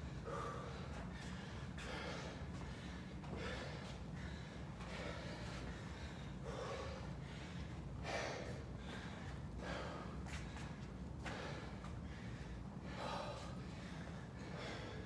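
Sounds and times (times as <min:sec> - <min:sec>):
men breathing hard: 0:00.0 - 0:15.0
steady low hum: 0:00.0 - 0:15.0.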